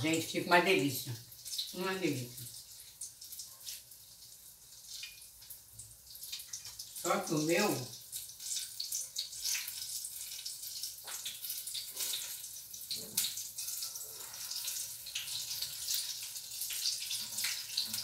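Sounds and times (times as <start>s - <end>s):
oil sizzling in frying pan: 0.0s - 18.0s.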